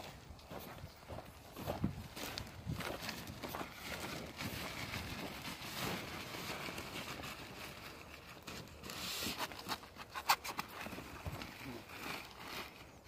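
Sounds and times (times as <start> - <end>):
scuffing in loose soil: 0.0 - 13.0
plastic sheeting rustling: 2.2 - 13.0.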